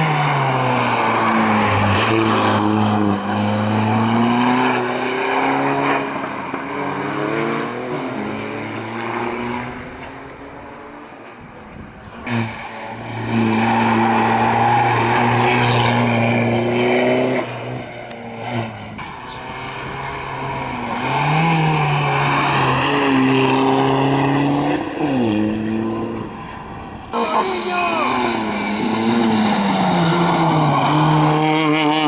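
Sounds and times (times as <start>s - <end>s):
rally car engine at high revs: 0.0s - 32.0s.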